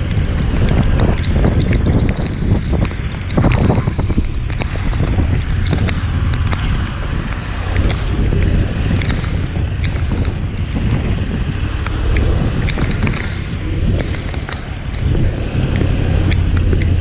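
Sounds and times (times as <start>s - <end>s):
raindrops hitting microphone: 0.0s - 17.0s
tyres on wet road: 0.0s - 17.0s
wind rushing over microphone: 0.0s - 17.0s.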